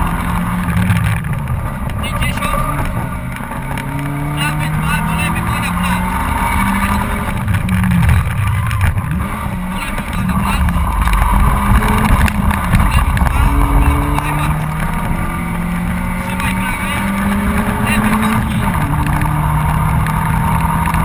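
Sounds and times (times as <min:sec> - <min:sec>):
car engine under hard driving: 0:00.0 - 0:21.0
tyre and road rumble: 0:00.0 - 0:21.0.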